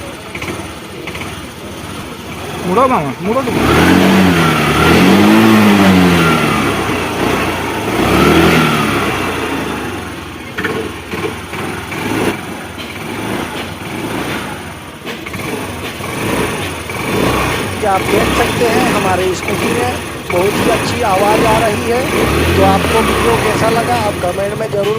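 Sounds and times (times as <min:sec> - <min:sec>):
scooter engine revving and idling: 0:00.0 - 0:24.9.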